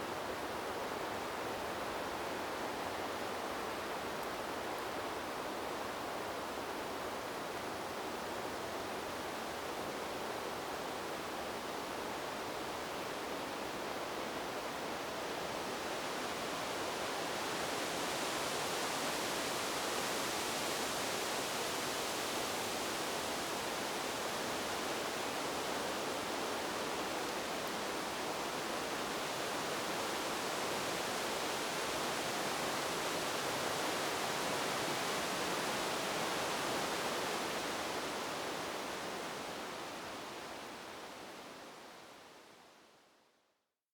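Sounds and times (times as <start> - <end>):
wind blowing through trees: 0.0 - 43.1.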